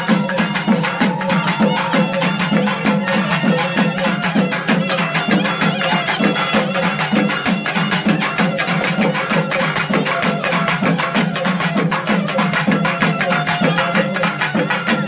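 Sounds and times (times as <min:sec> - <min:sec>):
fast folk drumming: 0:00.0 - 0:15.0.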